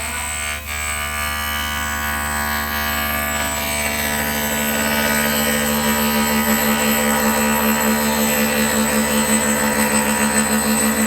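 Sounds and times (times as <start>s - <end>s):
cnc machine hum with whining tones: 0.0s - 11.0s.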